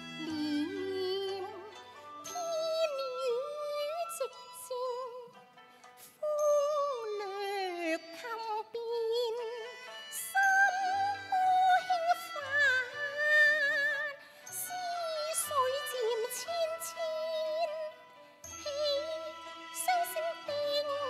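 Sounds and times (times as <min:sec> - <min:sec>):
opera melody with vibrato: 0:00.0 - 0:21.0.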